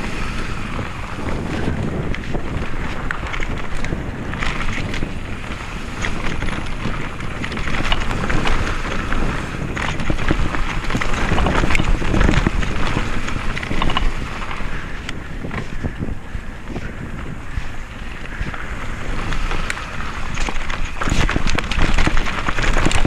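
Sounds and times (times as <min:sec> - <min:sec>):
bike rattling over rough trail: 0:00.0 - 0:23.0
wind buffeting microphone: 0:00.0 - 0:23.0.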